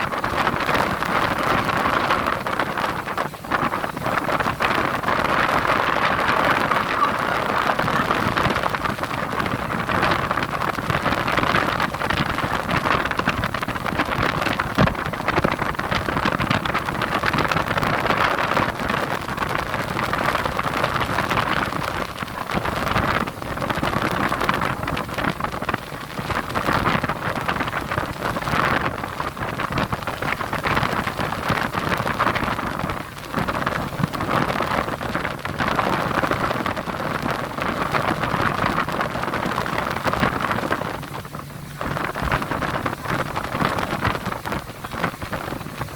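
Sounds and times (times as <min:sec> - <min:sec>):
sea waves breaking: 0:00.0 - 0:45.9.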